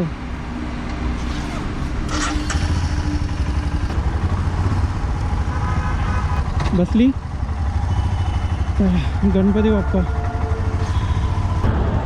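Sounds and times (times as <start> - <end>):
motorcycle engine idling: 2.0 - 12.0.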